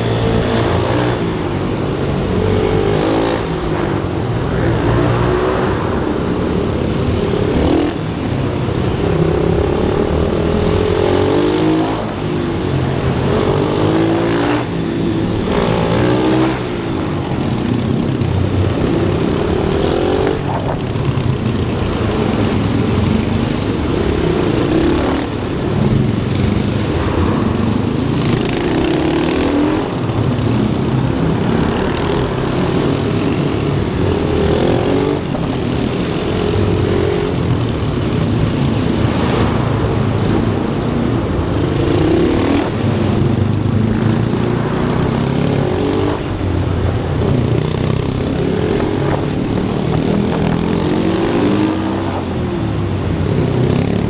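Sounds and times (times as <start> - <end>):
pit bike engines revving: 0.0 - 54.0.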